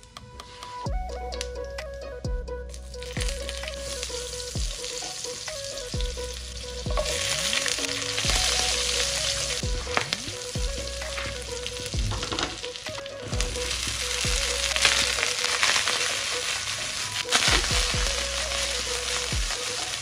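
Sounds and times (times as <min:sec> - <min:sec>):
background music with steady beat: 0:00.0 - 0:20.0
food sizzling in hot oil: 0:03.1 - 0:20.0
spatula stirring: 0:03.2 - 0:20.0.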